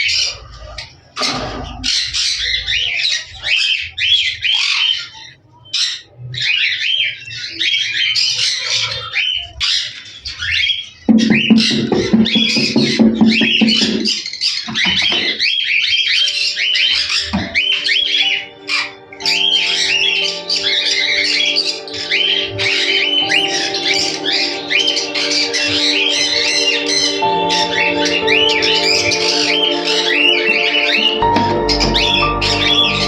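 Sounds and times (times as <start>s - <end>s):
caged birds squawking: 0.0s - 33.0s.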